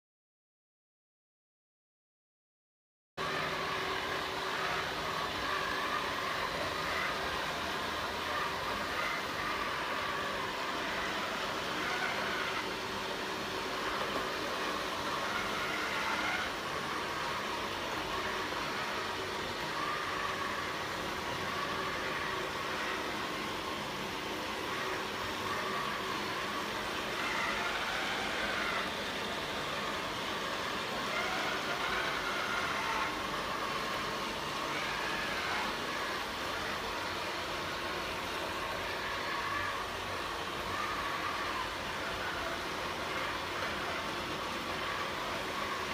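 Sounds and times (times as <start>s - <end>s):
robot vacuum cleaner whirring: 3.2s - 45.9s.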